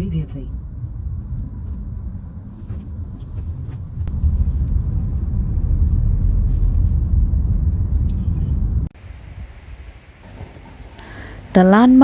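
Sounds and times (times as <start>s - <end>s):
car engine rumble: 0.0s - 11.3s
road noise: 0.0s - 11.6s.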